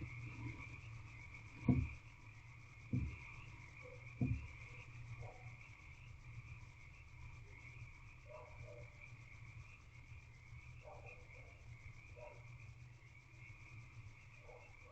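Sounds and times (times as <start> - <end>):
distant frogs calling: 0.0 - 14.9.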